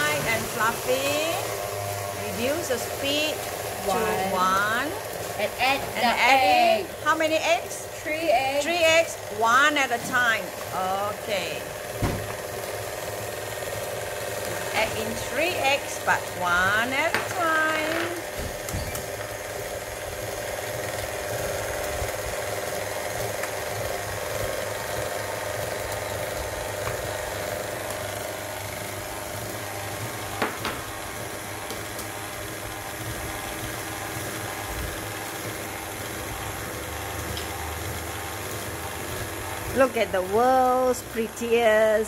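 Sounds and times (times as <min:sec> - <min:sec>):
stand mixer whirring: 0:00.0 - 0:42.0.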